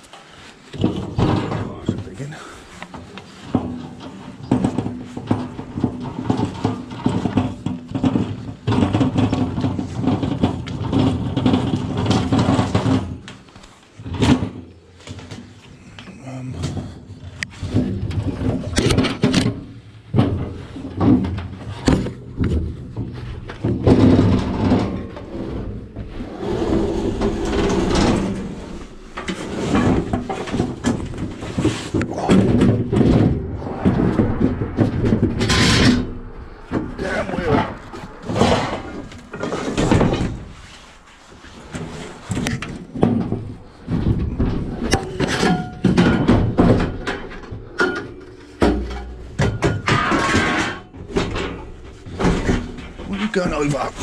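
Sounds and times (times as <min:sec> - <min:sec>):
sheet metal rattling and scraping: 0:00.2 - 0:54.0.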